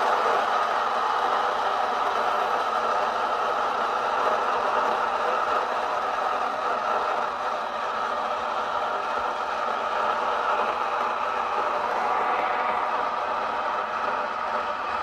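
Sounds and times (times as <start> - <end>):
coffee maker rushing noise: 0.0 - 15.0.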